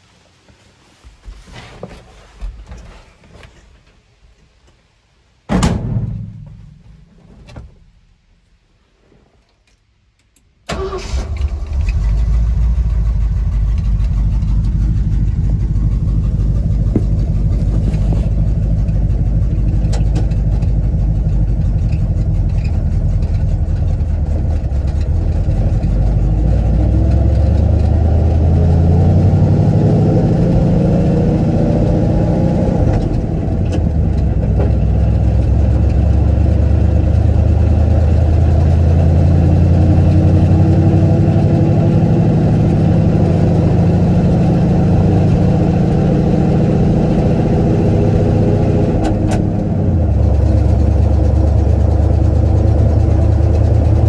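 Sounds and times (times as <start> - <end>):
truck engine accelerating: 10.7 - 54.0.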